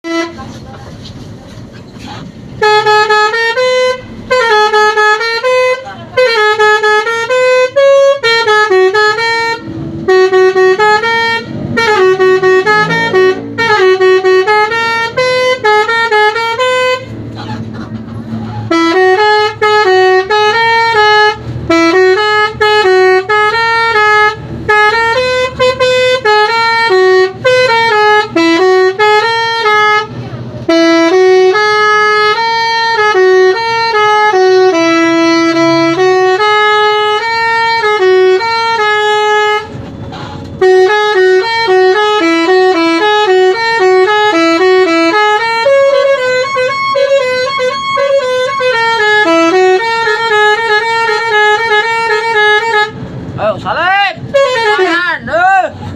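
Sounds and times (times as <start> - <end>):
musical air horn playing tune: 0.0 - 0.5, 2.0 - 17.4, 18.3 - 53.0, 54.3 - 55.0.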